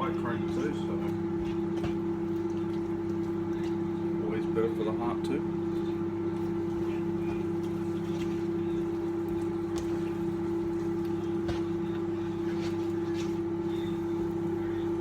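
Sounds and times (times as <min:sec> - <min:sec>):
kitchen appliance electrical hum: 0:00.0 - 0:15.0.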